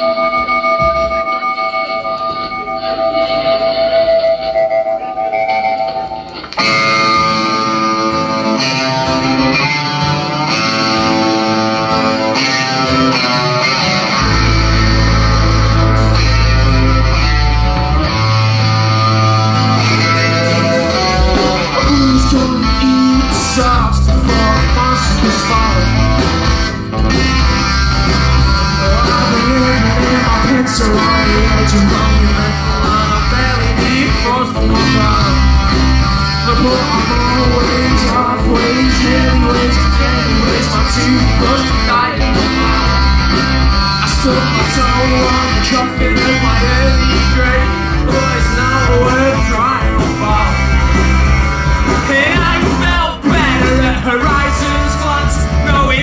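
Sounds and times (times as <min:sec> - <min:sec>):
bass guitar: 0:00.0 - 0:56.0
drums: 0:00.0 - 0:56.0
electric guitar: 0:00.0 - 0:56.0
person singing: 0:00.0 - 0:56.0.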